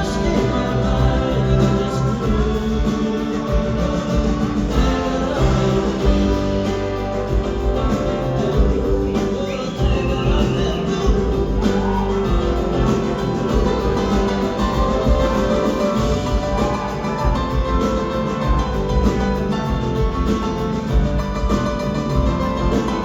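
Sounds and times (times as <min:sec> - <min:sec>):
live band with guitar: 0:00.0 - 0:23.0.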